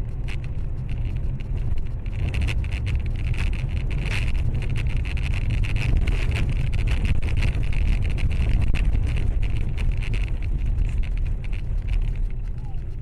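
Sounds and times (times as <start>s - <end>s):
road and wind noise: 0.0s - 13.0s
small clicks and rattles: 0.0s - 13.0s.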